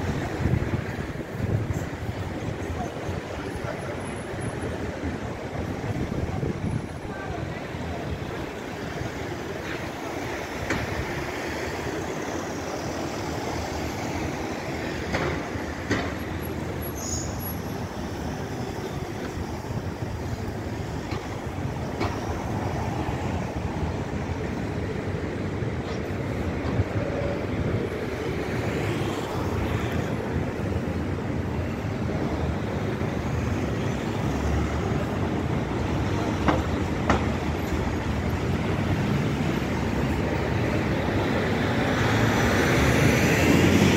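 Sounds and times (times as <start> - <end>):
road traffic driving past: 0.0 - 43.9.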